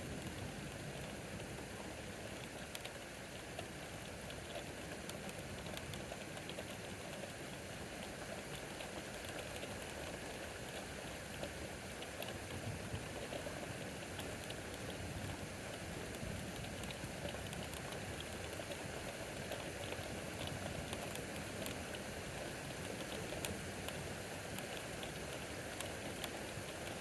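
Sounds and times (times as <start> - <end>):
raindrops ticking on surfaces: 0.0 - 27.0
steady rain hiss: 0.0 - 27.0.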